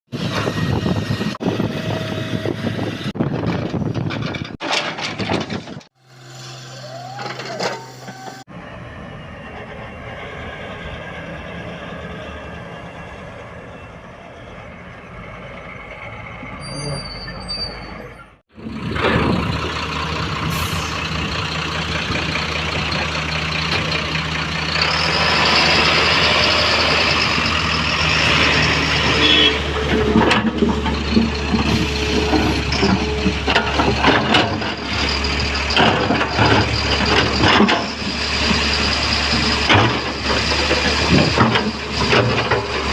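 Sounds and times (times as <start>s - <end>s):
diesel machinery running: 0.1s - 42.9s.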